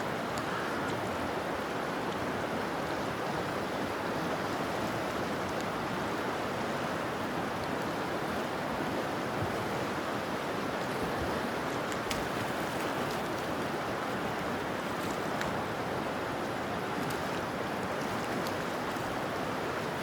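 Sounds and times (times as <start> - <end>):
river current rushing: 0.0 - 20.0.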